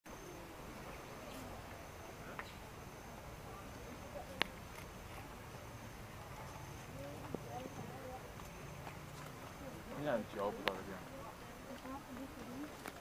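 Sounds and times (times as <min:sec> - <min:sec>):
faint high insect hum: 0:00.1 - 0:12.8.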